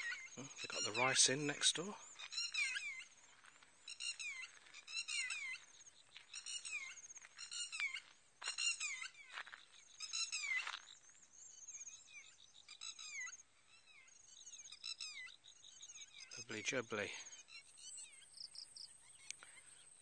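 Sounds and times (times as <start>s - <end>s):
animals calling: 0.0s - 20.0s.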